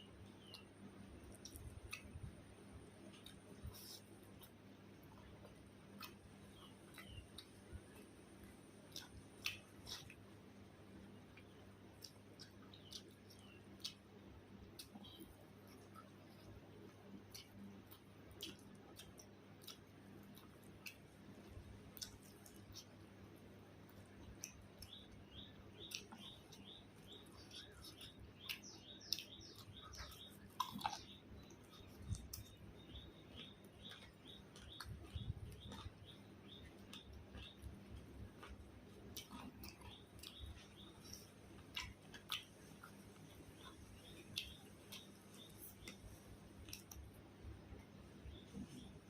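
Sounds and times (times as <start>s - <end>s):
person chewing: 0.4s - 2.3s, 2.9s - 10.3s, 11.3s - 23.2s, 23.8s - 47.2s.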